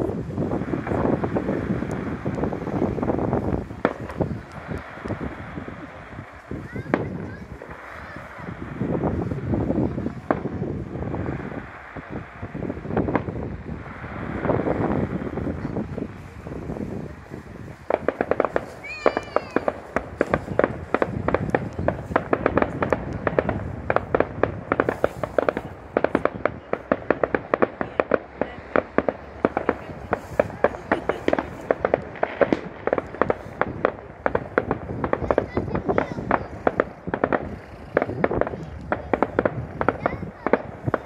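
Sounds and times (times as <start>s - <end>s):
fireworks popping and crackling: 0.0s - 41.0s.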